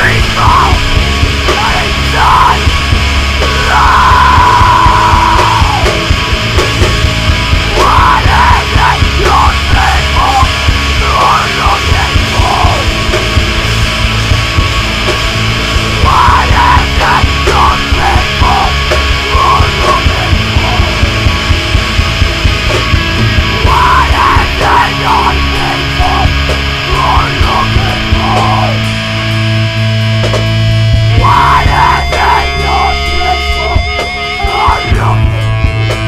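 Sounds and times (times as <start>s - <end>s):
bass guitar: 0.0s - 36.0s
distorted electric guitars: 0.0s - 36.0s
drums: 0.0s - 36.0s.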